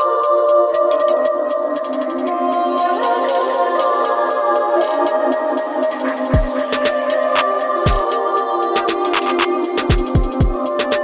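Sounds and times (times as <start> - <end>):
rapid hi-hat ticks: 0.0 - 11.0.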